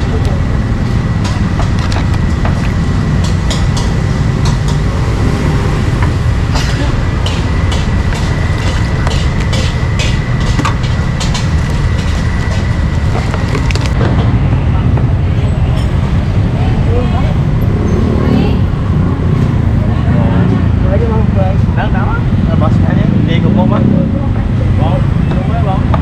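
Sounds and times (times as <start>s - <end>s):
low rumble of market: 0.0s - 26.0s.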